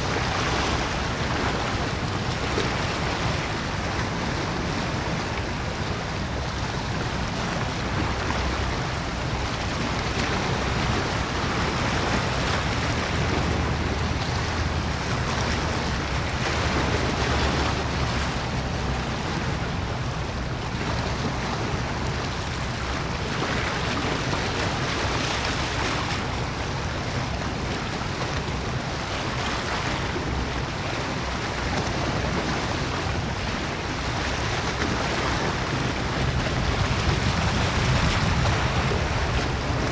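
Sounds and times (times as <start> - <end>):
sea water washing: 0.0 - 39.9
wind on microphone: 0.0 - 39.9.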